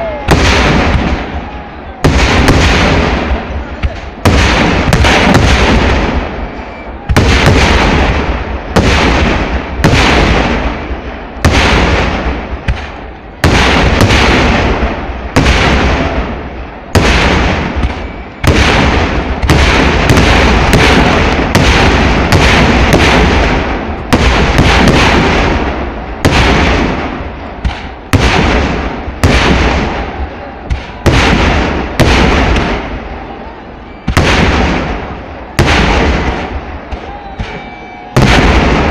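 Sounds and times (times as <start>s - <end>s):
firework shells bursting with echo: 0.0s - 38.9s.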